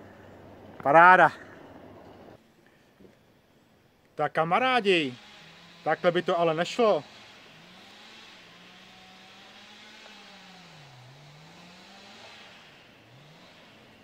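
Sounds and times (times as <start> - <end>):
distant vehicle engine running: 0.0 - 2.4, 5.0 - 14.0.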